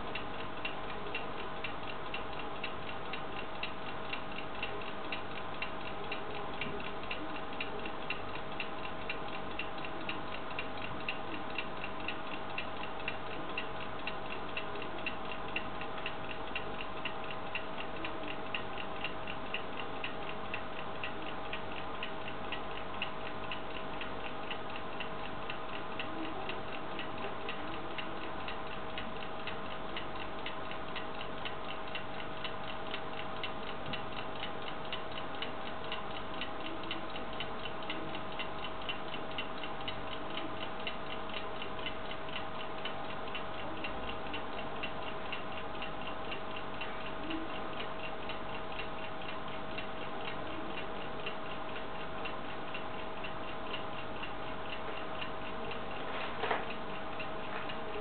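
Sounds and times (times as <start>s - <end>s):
alarm clock ticking: 0.0s - 56.1s.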